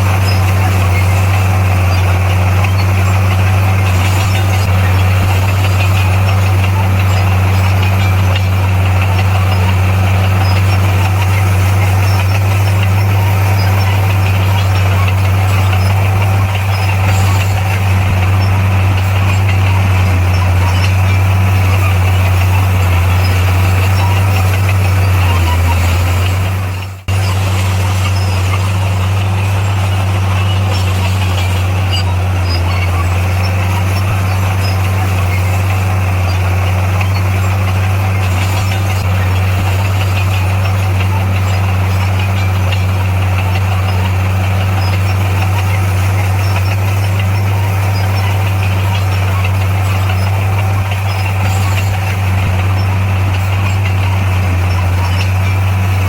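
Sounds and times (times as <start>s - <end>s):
diesel engine low drone: 0.0s - 56.0s.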